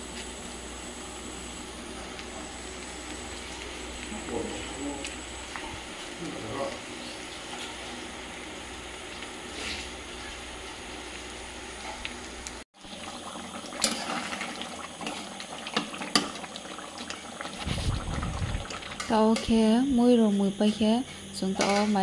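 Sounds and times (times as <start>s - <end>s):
curry bubbling: 0.6s - 19.4s.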